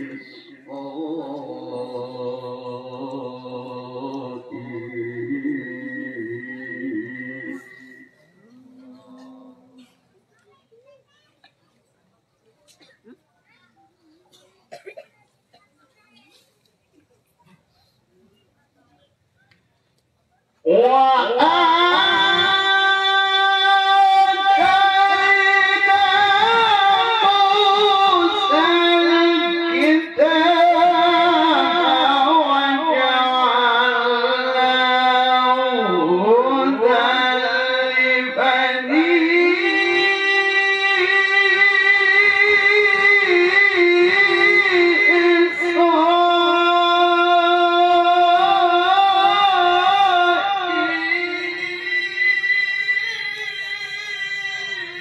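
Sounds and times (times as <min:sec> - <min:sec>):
man chanting melodic recitation: 0:00.0 - 0:09.9, 0:20.7 - 0:55.0.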